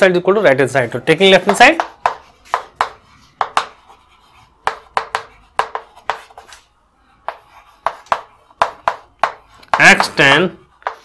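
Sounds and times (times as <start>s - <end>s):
chalk tapping on chalkboard: 1.3s - 6.6s, 7.2s - 11.0s.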